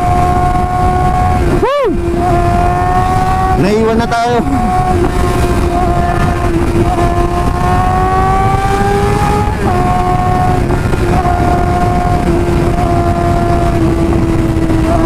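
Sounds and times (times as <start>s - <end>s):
motorcycle engine revving high: 0.0s - 15.0s
wind noise: 0.0s - 15.0s.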